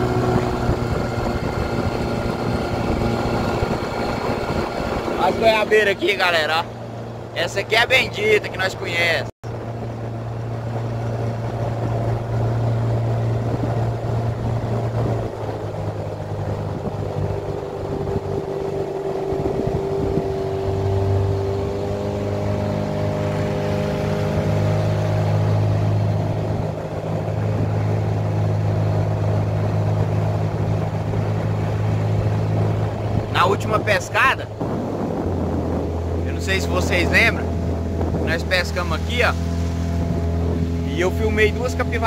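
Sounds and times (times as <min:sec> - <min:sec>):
boat motor running: 0:00.0 - 0:42.0.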